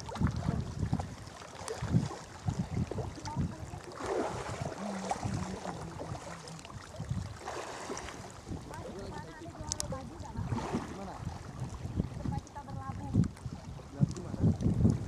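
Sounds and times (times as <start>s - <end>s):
seawater sloshing and splashing: 0.0s - 15.0s.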